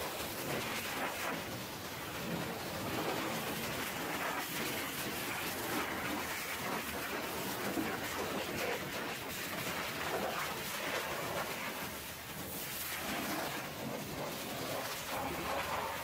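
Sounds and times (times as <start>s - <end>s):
pressure washer spraying metal: 0.0s - 16.0s.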